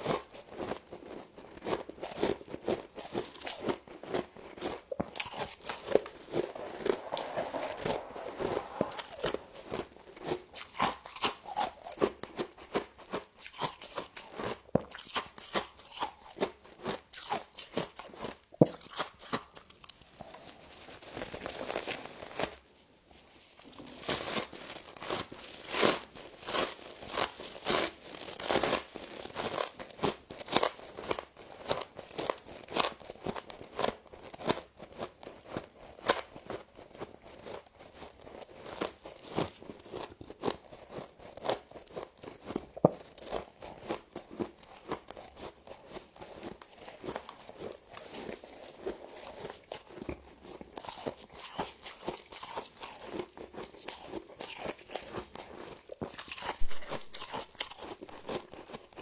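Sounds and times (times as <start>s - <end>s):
frost crunching when chewed: 0.0s - 22.6s, 23.6s - 59.0s.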